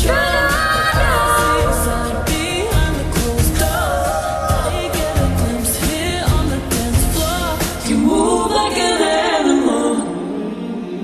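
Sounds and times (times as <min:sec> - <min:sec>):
slowed-down pop song with vocals: 0:00.0 - 0:11.0.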